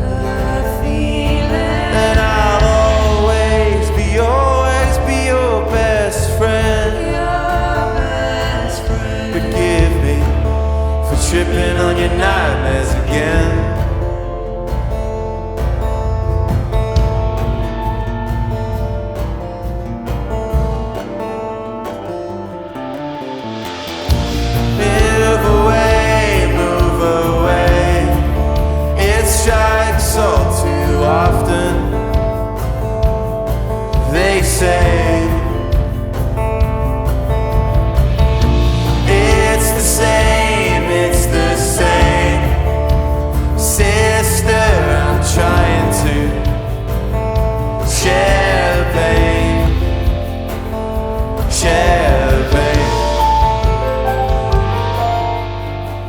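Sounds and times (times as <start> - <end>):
acoustic guitar strumming: 0.0 - 56.0
bending melodic guitar line: 0.0 - 56.0
rock band playing live: 0.0 - 56.0.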